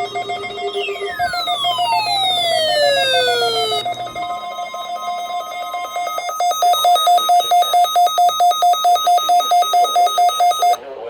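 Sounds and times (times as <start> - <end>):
rapid electronic beeping: 0.0 - 10.8.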